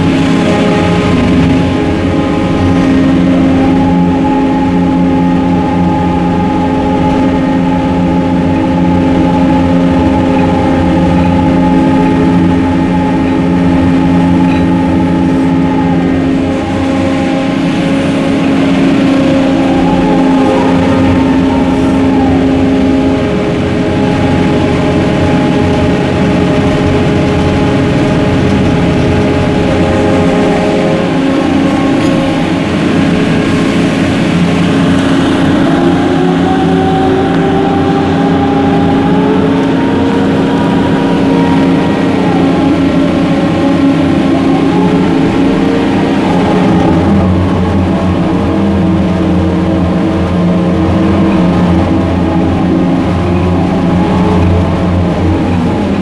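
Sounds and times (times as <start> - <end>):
crane machinery humming: 0.0 - 56.0.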